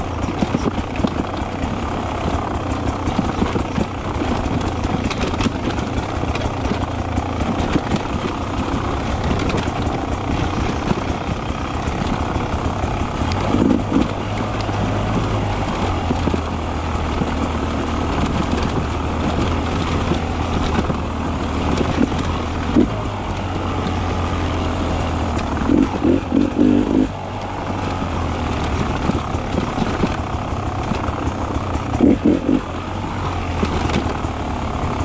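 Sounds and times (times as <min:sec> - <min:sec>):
two-stroke motorcycle engine running: 0:00.0 - 0:35.0.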